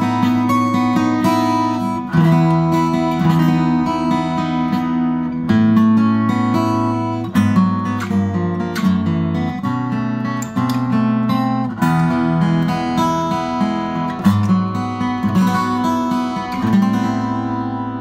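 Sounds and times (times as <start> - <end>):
fingerpicked acoustic guitar chords: 0.0 - 18.0.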